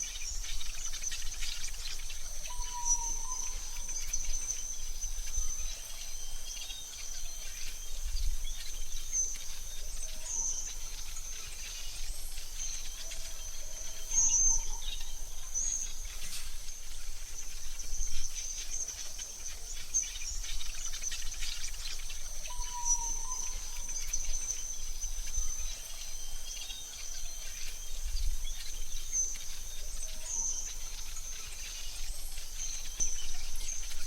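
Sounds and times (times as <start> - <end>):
bird chirps: 0.0 - 34.0.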